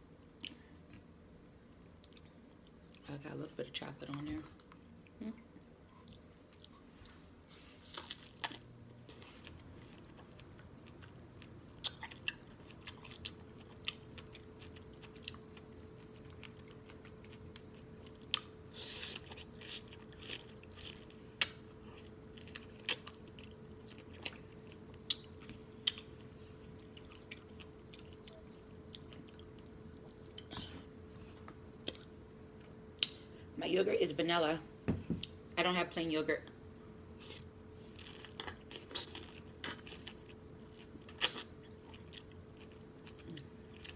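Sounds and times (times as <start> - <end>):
faint steady hum: 0.0 - 43.9
chewing and lip-smacking: 0.2 - 3.0, 4.5 - 7.3, 7.9 - 30.6, 31.3 - 33.3, 37.2 - 43.9.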